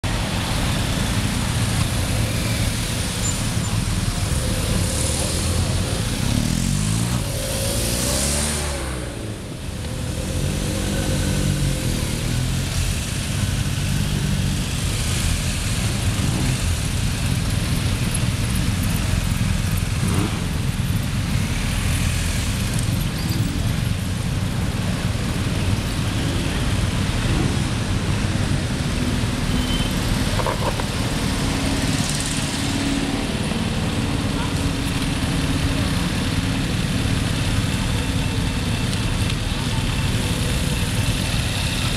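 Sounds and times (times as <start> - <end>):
traffic rumble: 0.0 - 41.9
motorcycles riding past: 0.1 - 41.9.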